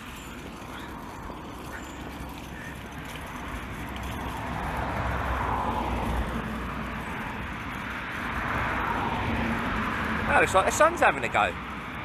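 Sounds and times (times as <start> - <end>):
car passing: 0.0 - 12.0.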